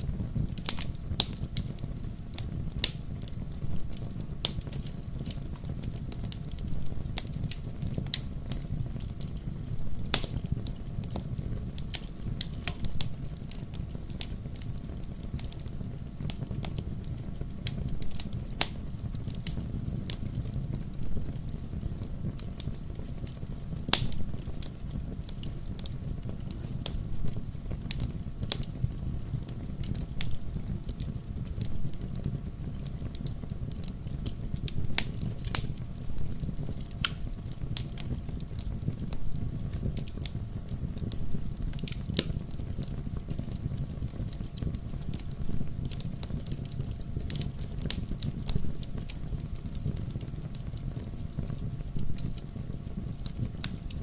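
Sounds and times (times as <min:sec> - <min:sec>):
bonfire crackling: 0:00.0 - 0:54.0.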